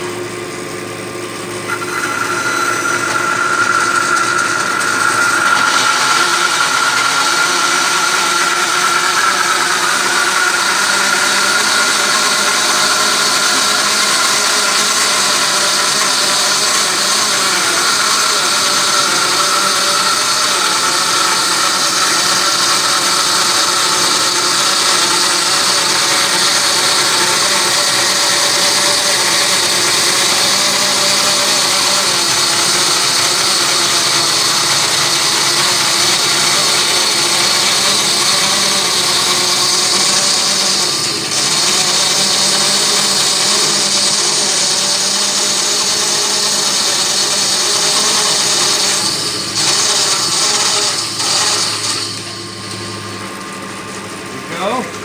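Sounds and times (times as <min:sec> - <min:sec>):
bandsaw cutting through a log: 0:00.0 - 0:55.0.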